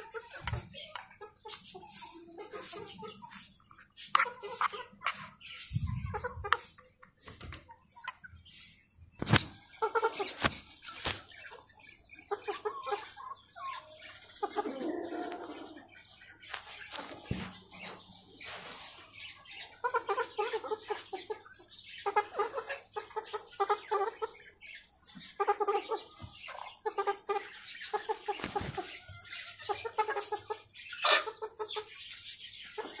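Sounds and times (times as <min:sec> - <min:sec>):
young chickens clucking: 0:00.0 - 0:33.0.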